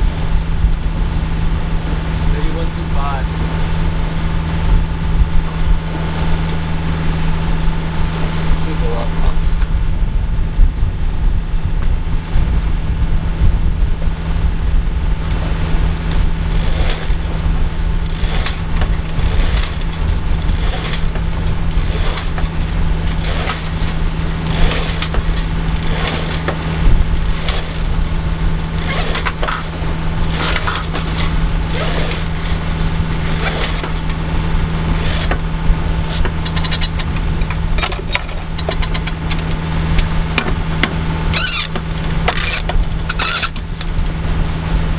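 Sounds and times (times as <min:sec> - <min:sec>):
boat engine humming: 0:00.0 - 0:10.3, 0:14.0 - 0:44.9.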